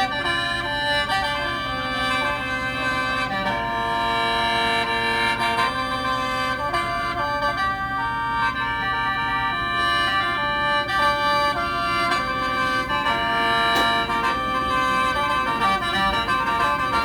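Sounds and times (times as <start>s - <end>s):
mouth organ melody over drone: 0.0s - 17.0s.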